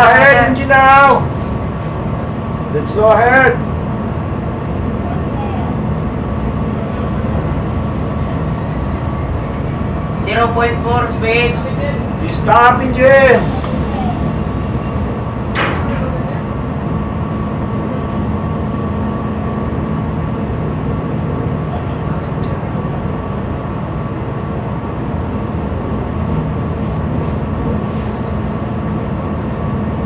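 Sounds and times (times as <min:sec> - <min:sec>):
ship machinery droning: 0:00.0 - 0:30.0.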